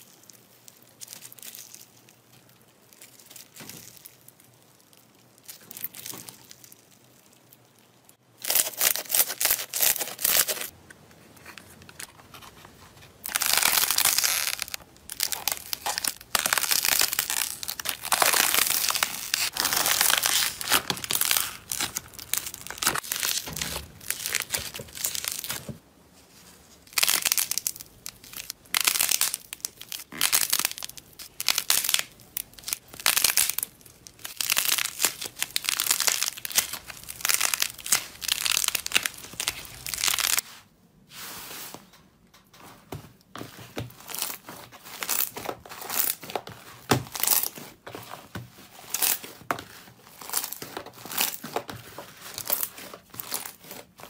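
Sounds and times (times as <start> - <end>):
slime squishing and crackling: 0.0 - 10.8, 13.1 - 25.7, 26.8 - 40.4, 43.6 - 54.0.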